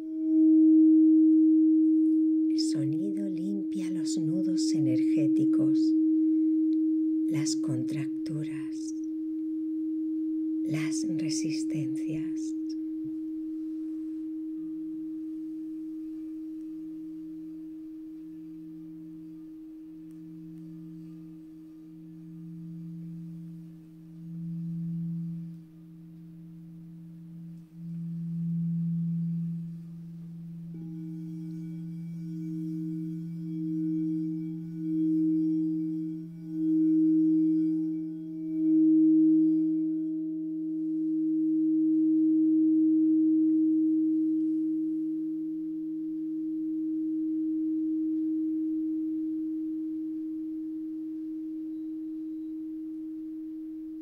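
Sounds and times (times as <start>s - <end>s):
singing bowl tones: 0.0s - 54.0s.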